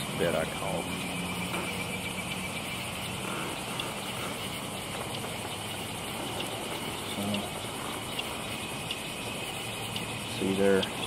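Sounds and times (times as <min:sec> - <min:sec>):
crickets and insects chirring: 0:00.0 - 0:11.0.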